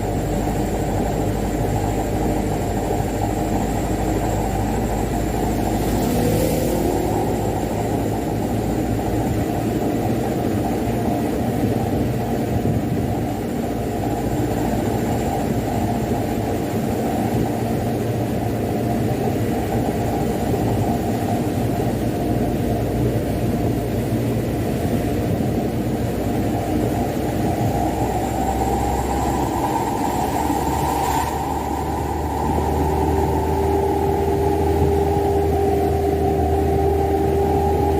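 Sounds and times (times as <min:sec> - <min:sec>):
road and cab noise: 0:00.0 - 0:37.9
truck diesel engine driving: 0:00.0 - 0:37.9.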